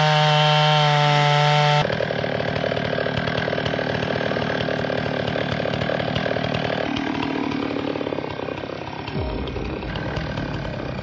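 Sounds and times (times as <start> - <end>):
small engine rattling: 1.8 - 11.0.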